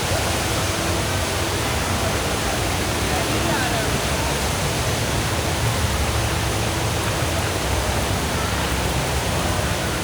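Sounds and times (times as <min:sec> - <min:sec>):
indoor waterfall rushing: 0:00.0 - 0:10.0.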